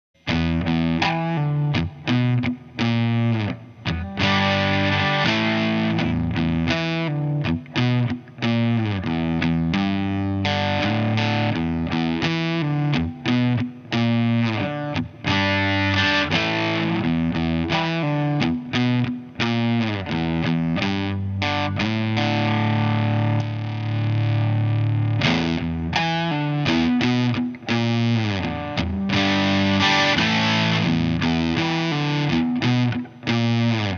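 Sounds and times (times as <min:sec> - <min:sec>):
overdriven electric guitar: 0:00.2 - 0:33.9.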